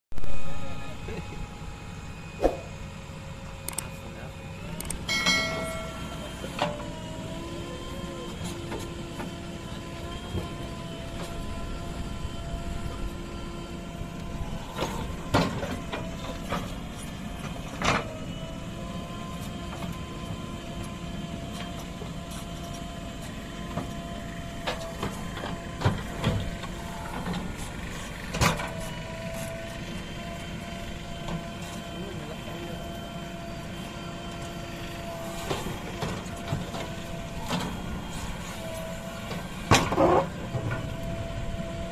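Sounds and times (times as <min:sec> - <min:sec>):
hydraulic whine: 0:00.1 - 0:41.9
diesel engine under load: 0:00.2 - 0:41.9.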